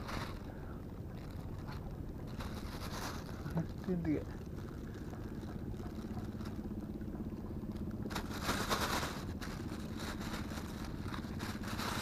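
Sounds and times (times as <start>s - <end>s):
plastic bag rustling: 0.0s - 6.8s, 8.0s - 12.0s
low engine hum: 0.0s - 12.0s.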